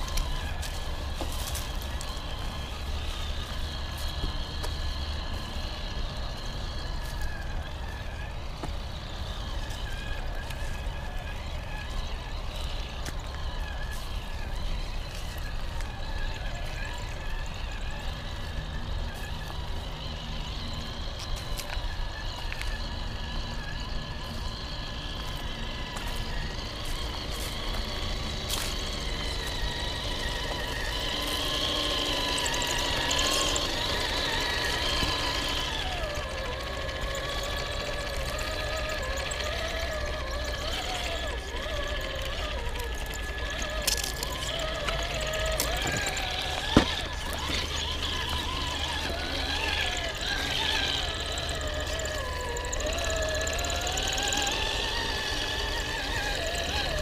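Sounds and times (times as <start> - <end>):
electric motor whine: 0.0 - 57.0
tyres crackling over stones: 0.0 - 57.0.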